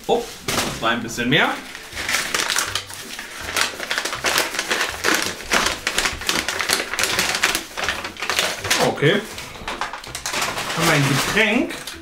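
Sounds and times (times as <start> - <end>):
paper crinkling and rustling: 0.1 - 12.0.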